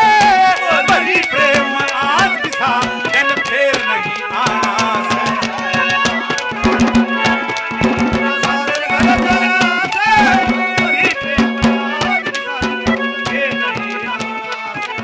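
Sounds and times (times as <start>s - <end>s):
man singing: 0.0s - 6.9s, 8.1s - 15.0s
clay pot beats: 0.0s - 15.0s
hand drum beats: 0.0s - 15.0s
harmonium holding a note: 0.0s - 15.0s.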